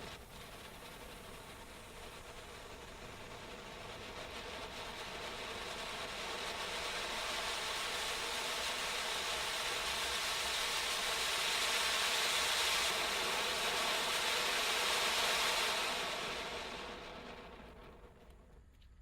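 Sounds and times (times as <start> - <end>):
firework fountain hissing sparks: 0.0 - 18.3.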